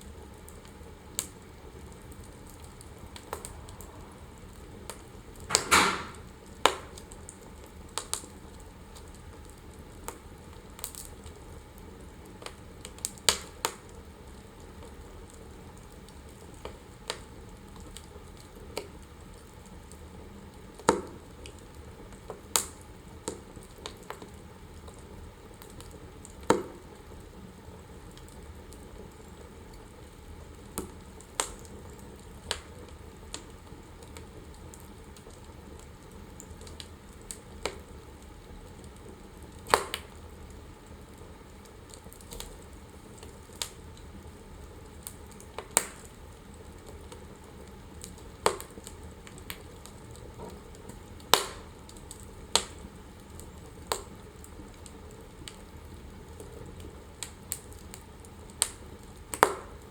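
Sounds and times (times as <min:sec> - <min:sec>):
wood fire crackling in fireplace: 0:00.0 - 0:59.9.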